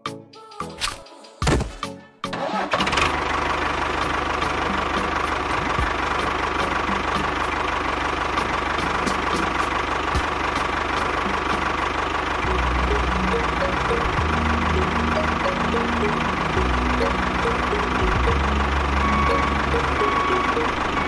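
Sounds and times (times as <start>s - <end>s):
engine starting and running: 0.8s - 21.0s.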